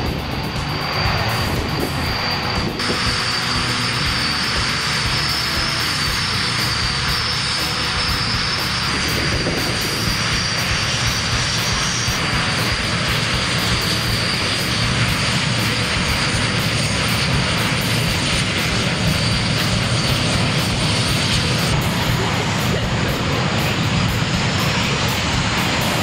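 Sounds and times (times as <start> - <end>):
jet engine whine: 0.0 - 26.0.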